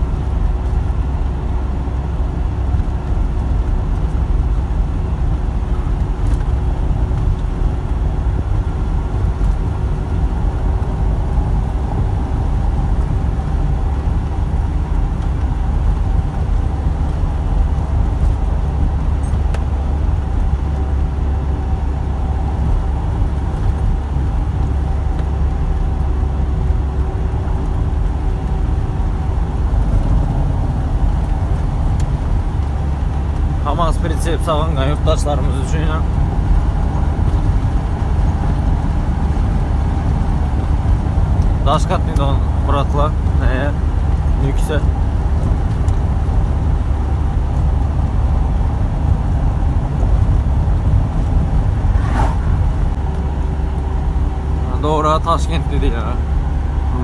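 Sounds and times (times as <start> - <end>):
truck engine droning: 0.0 - 57.0
tyre and road rumble: 0.0 - 57.0.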